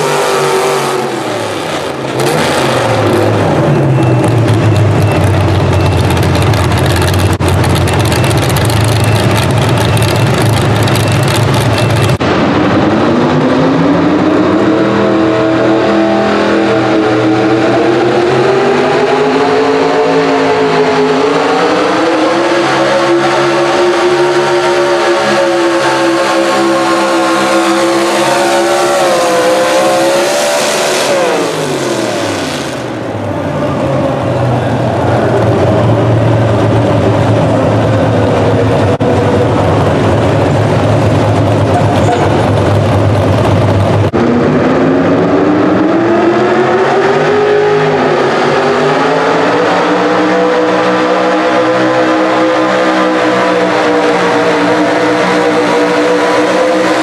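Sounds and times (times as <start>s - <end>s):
truck engines at full throttle: 0.0s - 57.0s.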